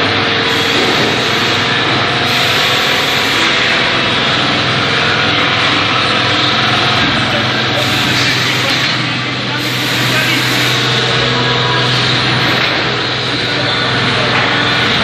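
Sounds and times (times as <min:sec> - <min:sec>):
production line machinery hiss and hum: 0:00.0 - 0:15.0.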